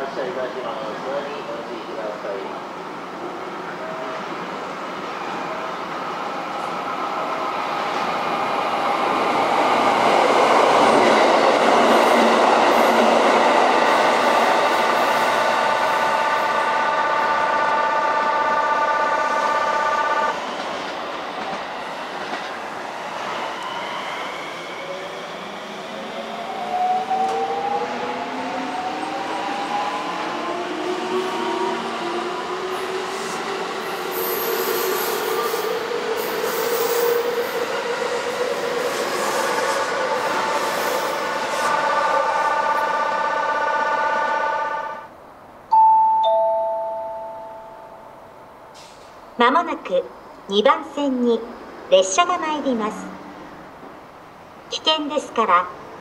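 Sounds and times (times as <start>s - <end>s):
diesel railcar engine and wheels: 0.0s - 56.0s.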